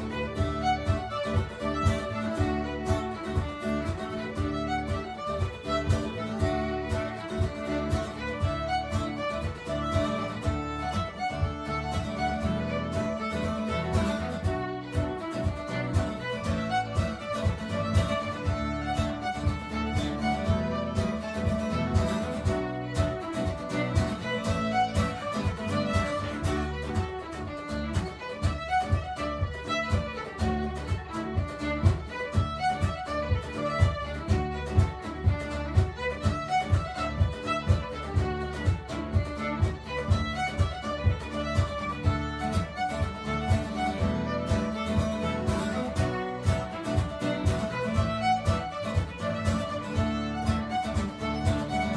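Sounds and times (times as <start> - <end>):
fiddle tune: 0.0 - 51.9
strummed guitar: 0.0 - 51.9.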